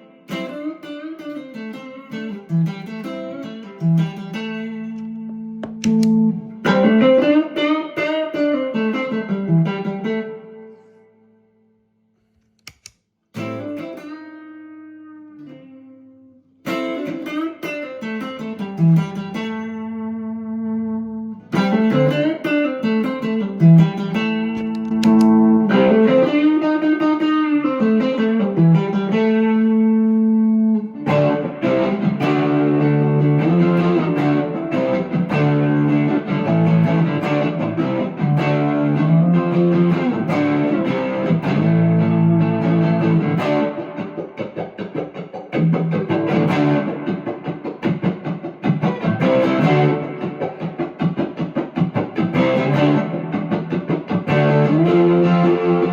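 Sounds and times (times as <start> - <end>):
overdriven electric guitar: 0.0 - 11.4, 12.6 - 55.9.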